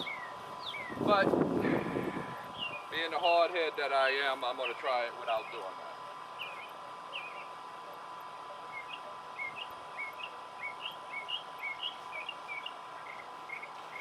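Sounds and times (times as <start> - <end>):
bird chirping: 0.0 - 1.1, 2.2 - 3.3, 4.4 - 14.0
faint steady drone: 0.0 - 14.0.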